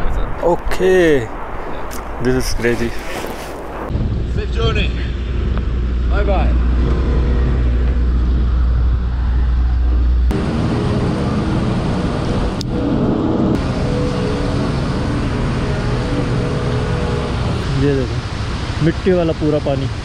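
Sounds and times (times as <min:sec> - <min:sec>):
road noise: 0:00.0 - 0:20.0
wind rumble on microphone: 0:00.0 - 0:20.0.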